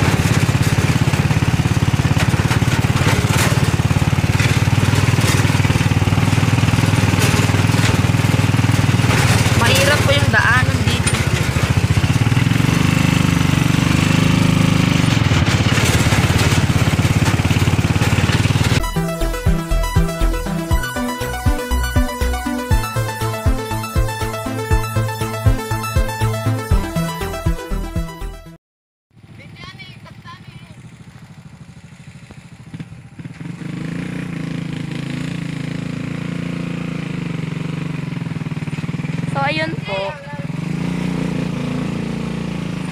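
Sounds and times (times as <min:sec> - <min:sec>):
vehicle engine chugging: 0:00.0 - 0:28.4, 0:29.1 - 0:42.9.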